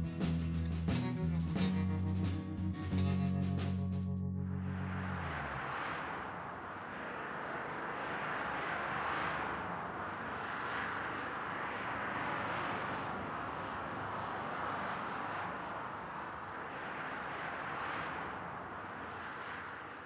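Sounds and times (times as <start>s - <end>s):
road traffic rushing past: 0.0s - 20.0s.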